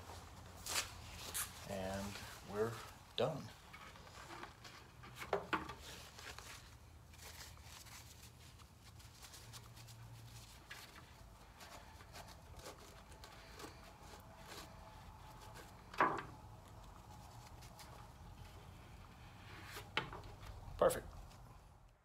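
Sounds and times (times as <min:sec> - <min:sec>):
paper towel rustling: 0:00.0 - 0:05.2, 0:05.8 - 0:21.6.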